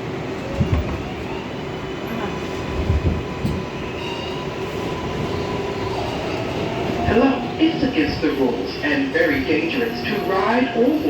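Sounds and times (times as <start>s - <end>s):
subway car rumble: 0.0s - 11.0s.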